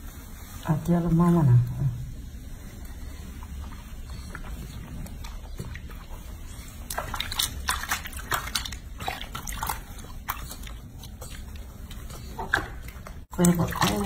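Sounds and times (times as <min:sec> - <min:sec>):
water sloshing in a sink: 0:02.5 - 0:14.0.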